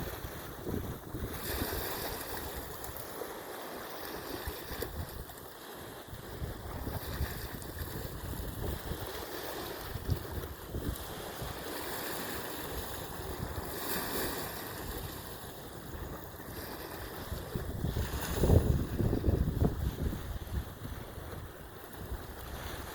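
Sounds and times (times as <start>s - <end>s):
wind buffeting microphone: 0.0s - 3.1s, 4.2s - 22.9s.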